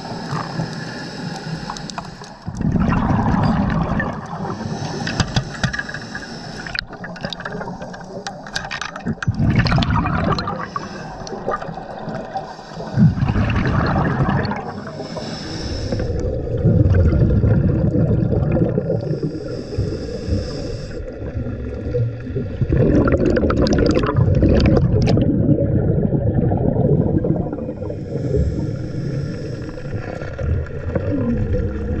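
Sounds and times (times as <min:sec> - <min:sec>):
underwater bubbling and gurgling: 0:00.0 - 0:32.0
underwater rush of water: 0:00.0 - 0:32.0.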